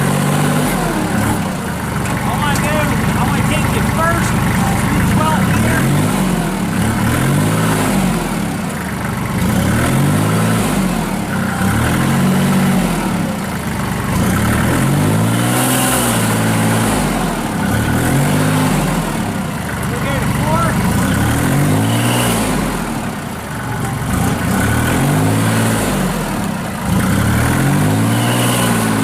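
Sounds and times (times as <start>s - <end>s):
diesel engine revving: 0.0s - 29.0s.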